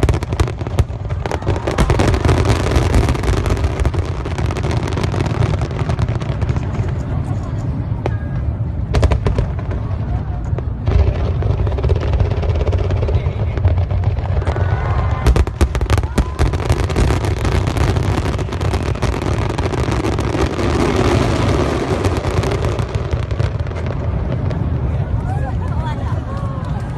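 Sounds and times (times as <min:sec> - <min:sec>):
fireworks booming: 0:00.0 - 0:25.5
fireworks crackling pops: 0:00.0 - 0:26.9
steady low rumble: 0:00.0 - 0:26.9.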